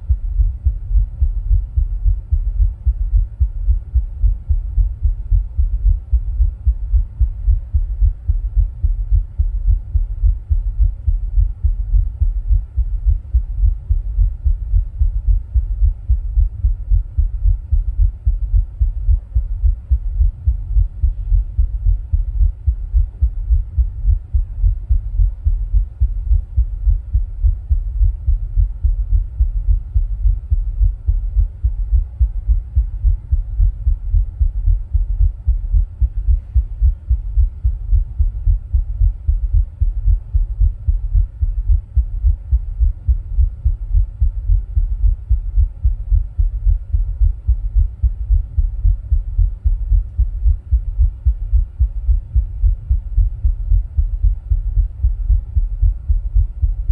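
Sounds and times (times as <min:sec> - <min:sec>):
heartbeat thumps: 0:00.0 - 0:56.9.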